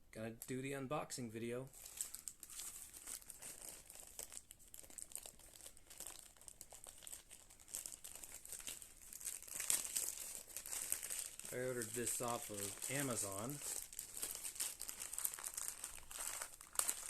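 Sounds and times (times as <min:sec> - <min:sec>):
packaging crinkling and rustling: 0:01.7 - 0:17.0.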